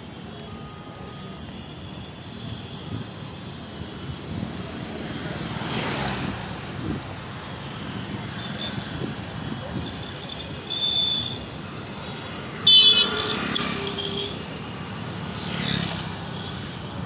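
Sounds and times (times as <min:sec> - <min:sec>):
road traffic rumble: 0:00.0 - 0:17.0
rush of passing traffic: 0:00.0 - 0:17.0.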